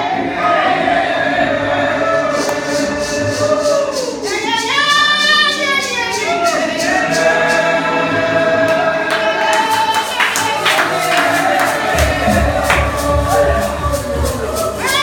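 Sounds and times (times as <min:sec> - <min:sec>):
congregation singing: 0:00.0 - 0:15.0
sharp rhythmic strikes: 0:02.4 - 0:15.0.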